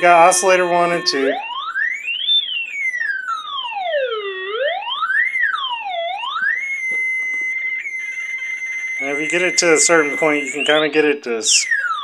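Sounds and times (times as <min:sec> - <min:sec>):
sweeping electronic oscillator tone: 0:00.0 - 0:11.0.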